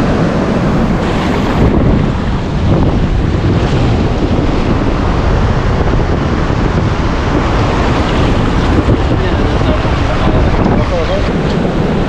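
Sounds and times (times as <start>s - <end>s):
shallow surf washing: 0.0s - 12.0s
wind buffeting microphone: 0.0s - 12.0s.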